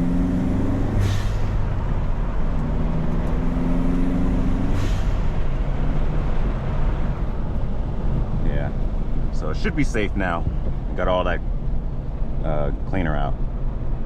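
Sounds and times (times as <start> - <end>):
car engine under throttle: 0.0 - 14.0.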